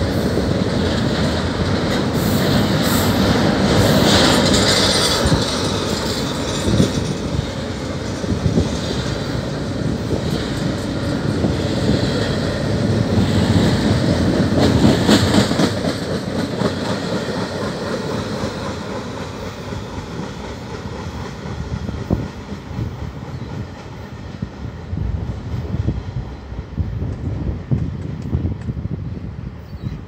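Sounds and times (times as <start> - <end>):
freight train wheels clattering: 0.0 - 28.9.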